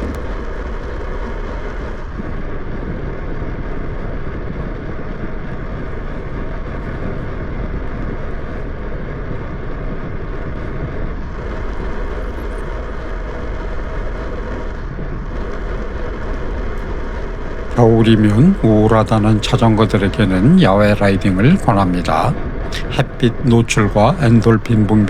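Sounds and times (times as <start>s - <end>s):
wind rumble on microphone: 0.0s - 23.5s.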